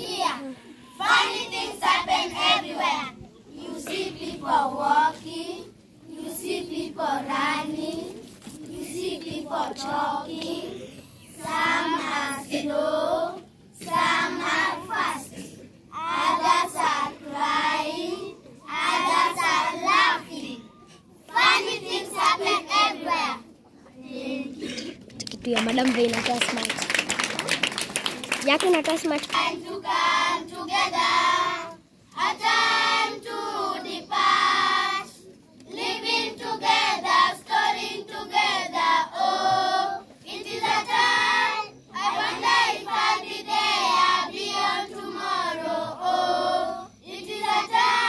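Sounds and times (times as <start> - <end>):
children singing in unison: 0.0 - 20.6, 21.3 - 23.4, 29.4 - 48.0.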